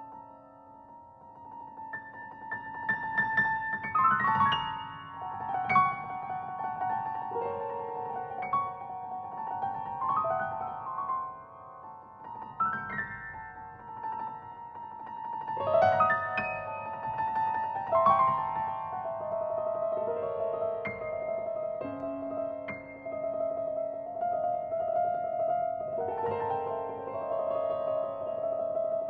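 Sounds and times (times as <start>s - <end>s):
slow classical piano piece: 0.0s - 29.0s.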